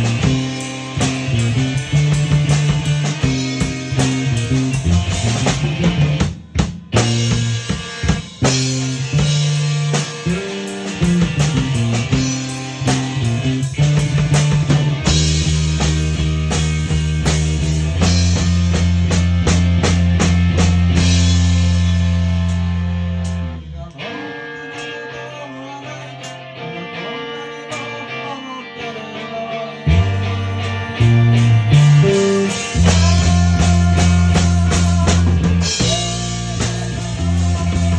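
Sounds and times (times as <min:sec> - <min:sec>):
drum kit: 0:00.0 - 0:24.1, 0:29.9 - 0:37.9
bass guitar: 0:00.0 - 0:37.9
electric guitar: 0:00.0 - 0:37.9.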